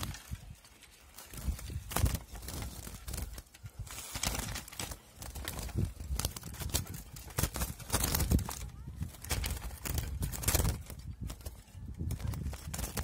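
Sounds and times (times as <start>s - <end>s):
birds fluttering in a cage: 0.0s - 13.0s.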